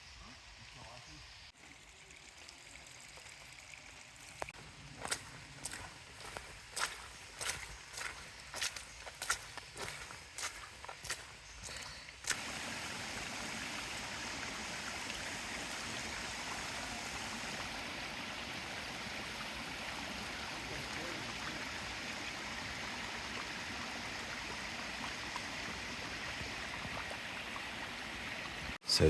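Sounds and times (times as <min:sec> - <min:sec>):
creek flowing: 0:00.6 - 0:29.0.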